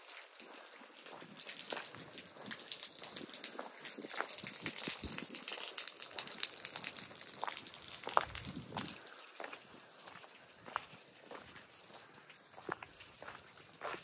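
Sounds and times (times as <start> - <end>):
water splashing: 0.0 - 14.0
water ticking: 0.0 - 14.0
wet footsteps in mud: 0.0 - 14.0.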